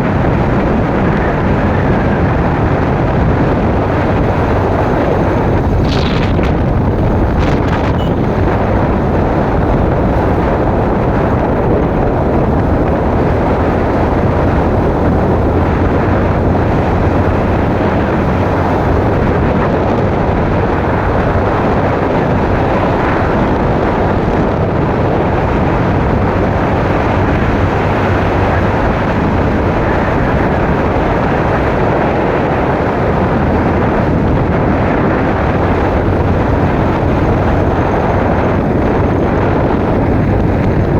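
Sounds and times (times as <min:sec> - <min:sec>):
motorcycle engine humming: 0:00.0 - 0:40.9
wind rushing on microphone: 0:00.0 - 0:40.9.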